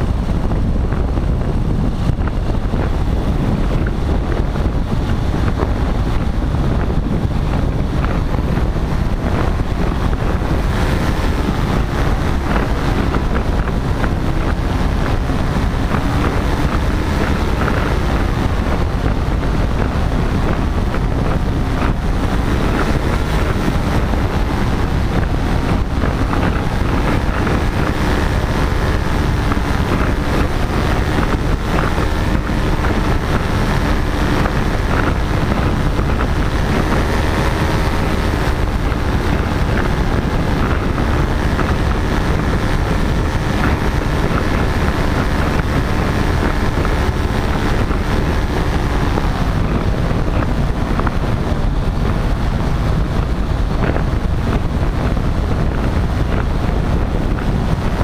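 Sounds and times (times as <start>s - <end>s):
paramotor engine and propeller: 0.0s - 58.0s
wind rumble on microphone: 0.0s - 58.0s.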